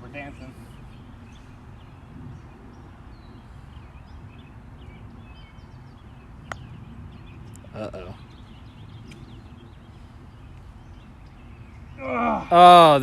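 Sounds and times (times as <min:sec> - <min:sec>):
bird chirps: 0:00.1 - 0:13.0.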